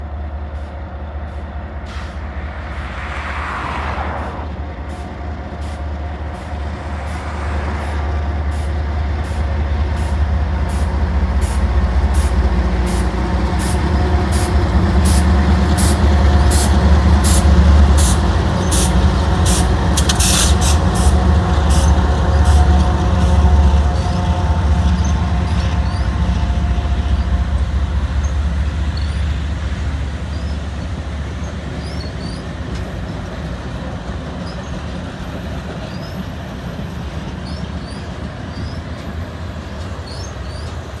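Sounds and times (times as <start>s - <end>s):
diesel locomotive engine rumble: 0.0s - 41.0s.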